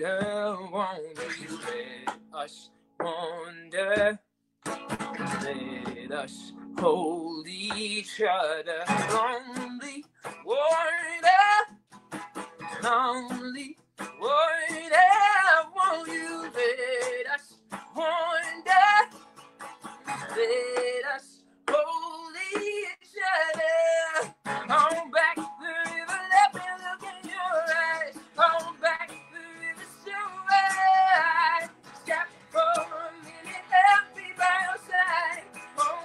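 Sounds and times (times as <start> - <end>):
man singing: 0.0 - 4.2, 5.2 - 11.7, 12.8 - 19.1, 20.1 - 36.0
acoustic guitar: 0.0 - 36.0.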